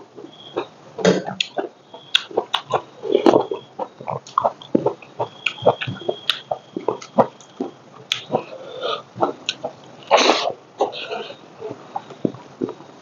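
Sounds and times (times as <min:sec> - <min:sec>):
chewing with wet smacks: 0:00.2 - 0:13.0.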